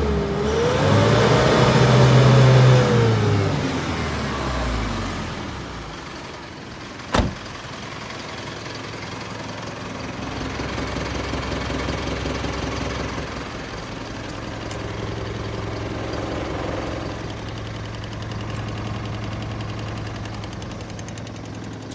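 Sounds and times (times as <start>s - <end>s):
truck engine idling: 2.2s - 21.9s.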